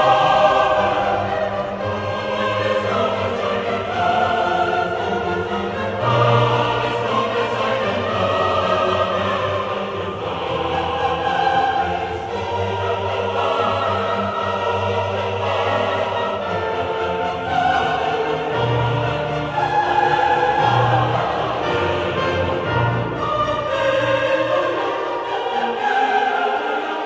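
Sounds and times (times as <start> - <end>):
choir singing long held notes: 0.0 - 27.0
classical accompaniment: 0.0 - 27.0.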